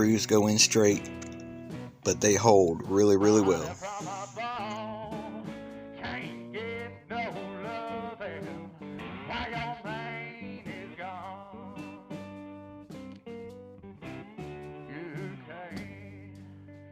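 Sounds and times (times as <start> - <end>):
blues music with guitar: 0.0 - 16.9.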